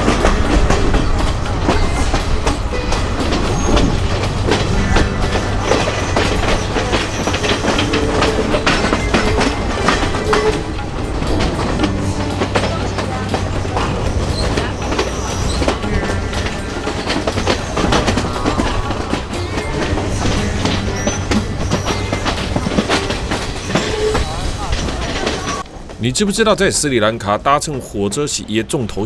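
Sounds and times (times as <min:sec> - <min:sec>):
train running low rumble: 0:00.0 - 0:29.0
wheels clicking and rattling: 0:00.0 - 0:29.0.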